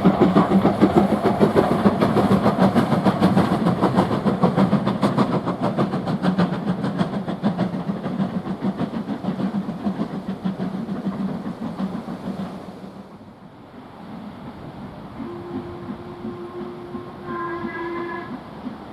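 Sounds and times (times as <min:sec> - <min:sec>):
steam train running past: 0:00.0 - 0:18.9.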